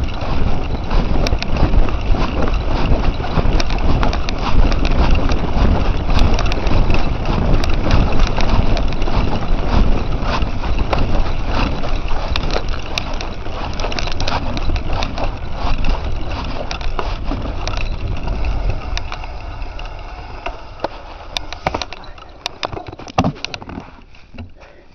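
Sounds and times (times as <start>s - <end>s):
bike rattling with clicks: 0.0s - 24.6s
bike tyres crunching on dirt: 0.0s - 24.7s.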